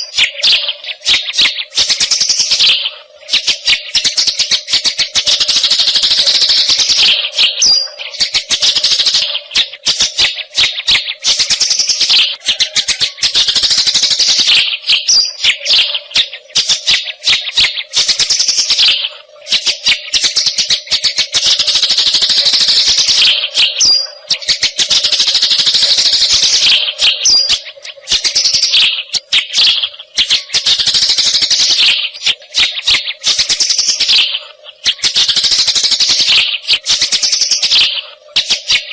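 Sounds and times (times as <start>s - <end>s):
sparrow chirping: 0.0s - 38.9s.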